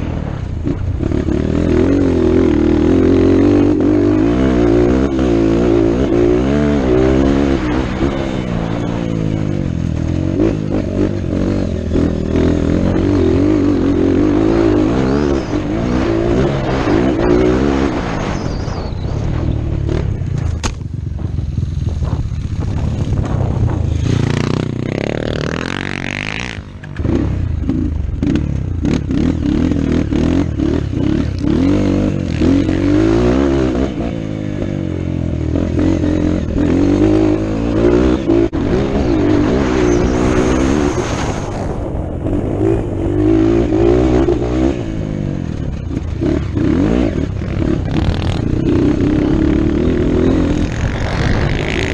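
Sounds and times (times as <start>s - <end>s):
dirt bike engine revving: 0.2s - 51.9s.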